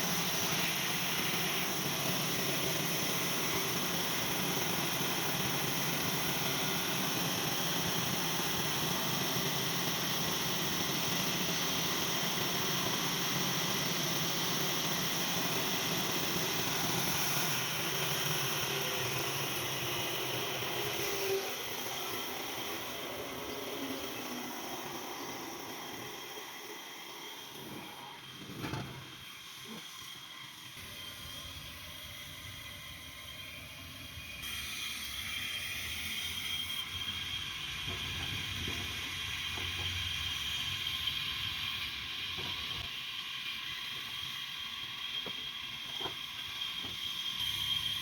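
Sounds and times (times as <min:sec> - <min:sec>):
sawmill machinery humming: 0:00.0 - 0:48.0.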